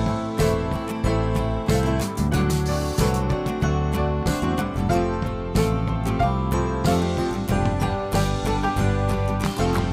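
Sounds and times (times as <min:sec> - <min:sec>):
music with steady beat: 0:00.0 - 0:09.9
plucked guitar notes: 0:00.0 - 0:09.9.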